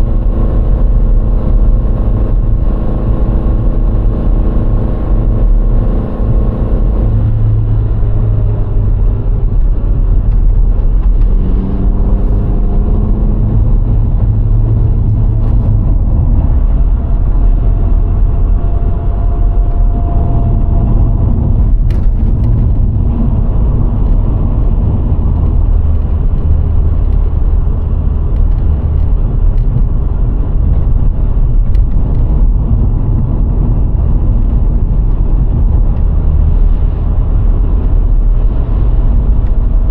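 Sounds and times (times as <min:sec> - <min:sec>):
car engine while driving: 0:00.0 - 0:39.9.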